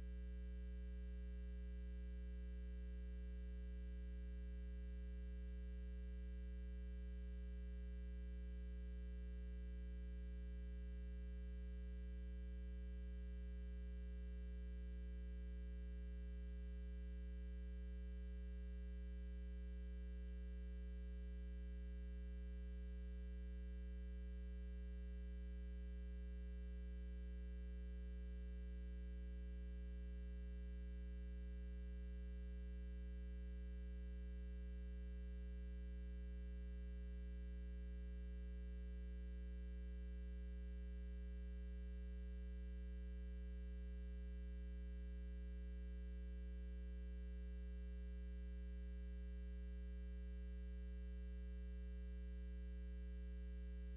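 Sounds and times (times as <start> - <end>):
electrical mains hum: 0.0 - 53.9.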